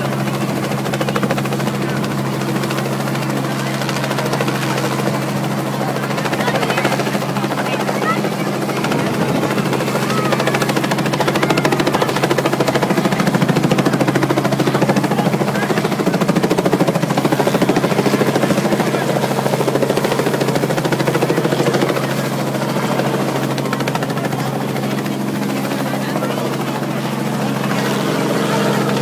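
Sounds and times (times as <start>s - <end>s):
helicopter engine and turbine hum: 0.0s - 29.0s
helicopter rotor beating: 0.0s - 29.0s.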